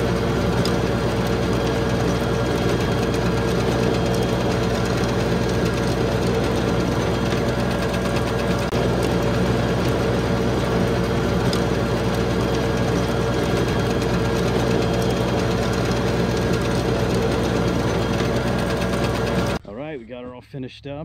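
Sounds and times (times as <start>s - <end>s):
tractor diesel engine running: 0.0s - 19.6s.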